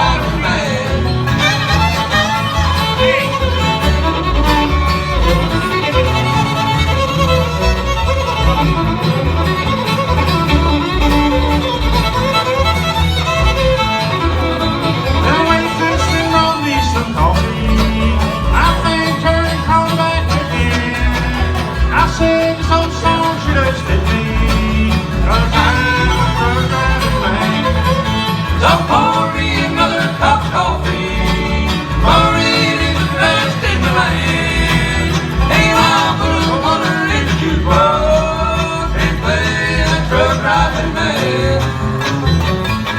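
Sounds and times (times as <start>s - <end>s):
banjo: 0.0s - 42.9s
bass beat: 0.0s - 42.9s
fiddle with sliding notes: 0.0s - 42.9s
guitar: 0.0s - 42.9s.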